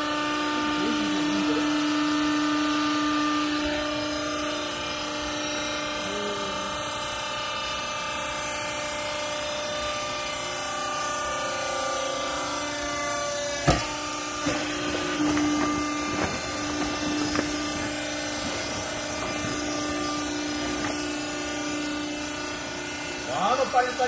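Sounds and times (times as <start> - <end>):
hydraulic power unit humming: 0.0 - 24.0.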